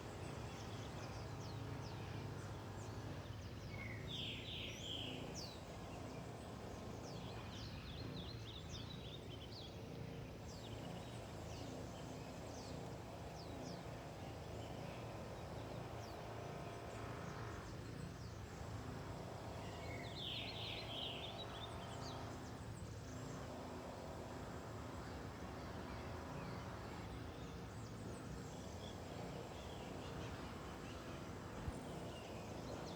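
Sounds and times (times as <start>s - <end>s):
low background noise: 0.0s - 32.9s.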